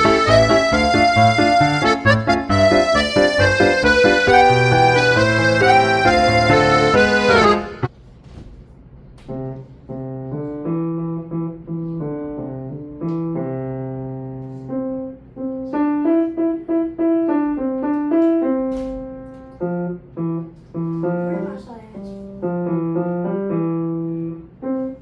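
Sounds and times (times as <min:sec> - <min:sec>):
piano playing children's melody: 0:00.0 - 0:07.9, 0:09.3 - 0:25.0.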